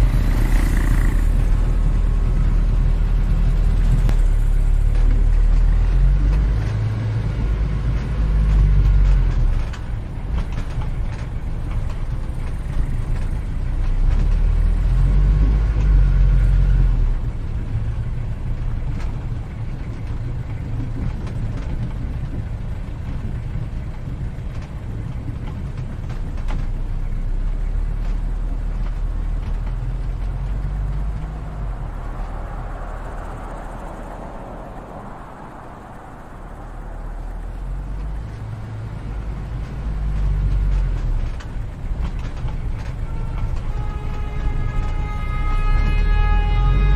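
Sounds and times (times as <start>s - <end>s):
passing street traffic rumbling: 0.0s - 46.9s.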